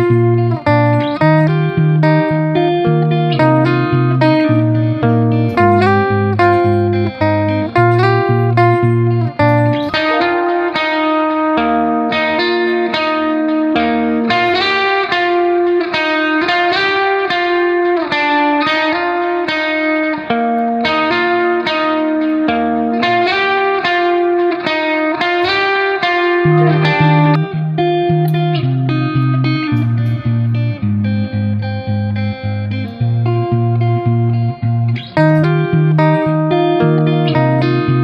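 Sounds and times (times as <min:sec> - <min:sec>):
guitar playing: 0:00.0 - 0:38.0.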